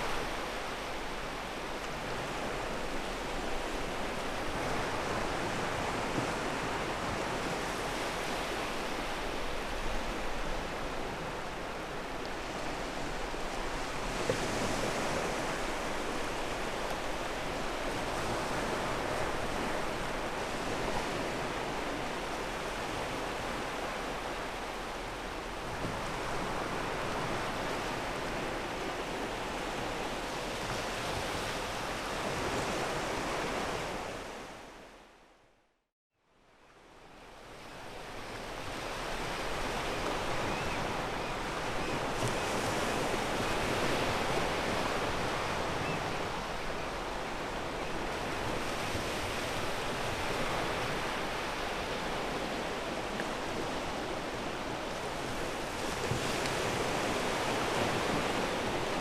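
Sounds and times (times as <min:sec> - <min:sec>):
waves on a pebble beach: 0:00.0 - 0:34.4, 0:38.0 - 0:59.0.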